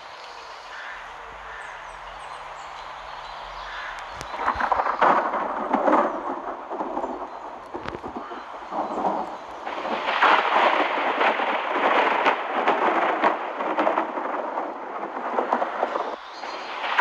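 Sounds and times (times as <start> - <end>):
heavy rain pelting down: 0.0 - 17.0.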